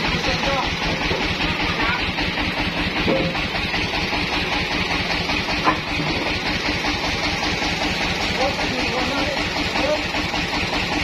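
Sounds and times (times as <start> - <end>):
sawmill engine idling: 0.0 - 11.0.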